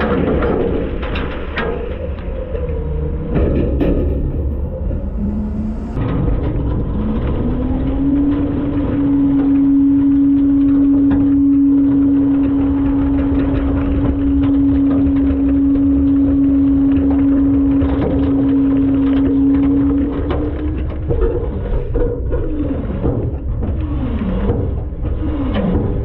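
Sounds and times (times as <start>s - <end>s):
garbage truck whine: 0.0s - 26.0s
low engine rumble: 0.0s - 26.0s.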